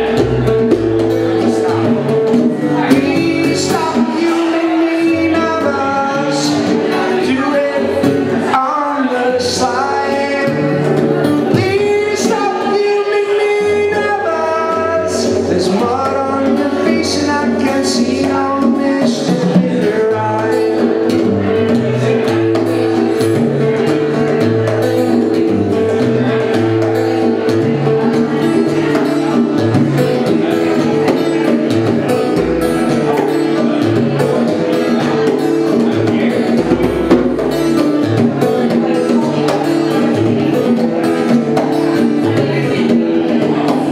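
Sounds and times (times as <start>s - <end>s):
bongos: 0.0s - 8.7s, 9.3s - 43.9s
man singing: 0.0s - 24.3s, 25.4s - 43.9s
strummed acoustic guitar: 0.0s - 43.9s.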